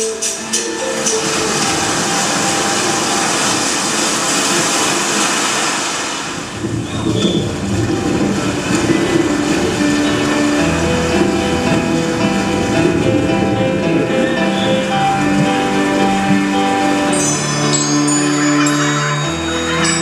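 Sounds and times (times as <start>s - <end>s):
rushing noise: 0.0s - 20.0s.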